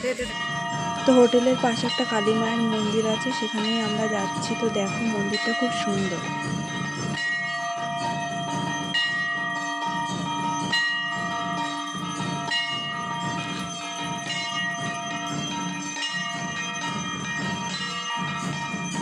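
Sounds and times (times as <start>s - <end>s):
temple bells ringing: 0.0s - 19.0s.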